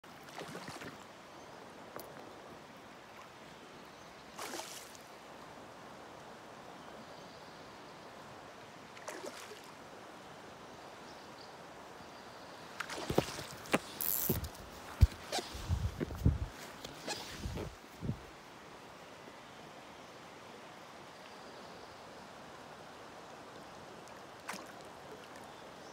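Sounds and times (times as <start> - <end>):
river water flowing: 0.0 - 25.9.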